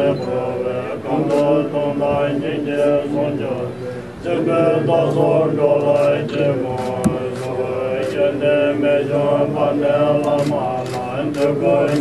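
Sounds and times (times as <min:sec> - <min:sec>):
voices chanting a mantra: 0:00.0 - 0:12.0.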